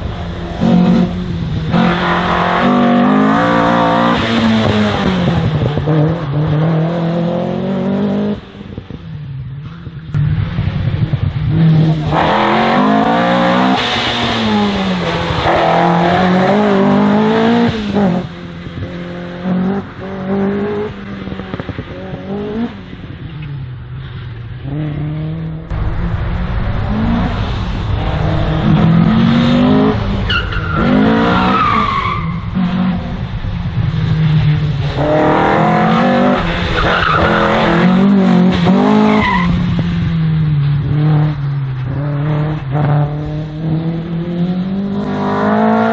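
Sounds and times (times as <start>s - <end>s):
race car engine revving: 0.0s - 9.0s, 9.6s - 23.9s, 24.6s - 45.9s.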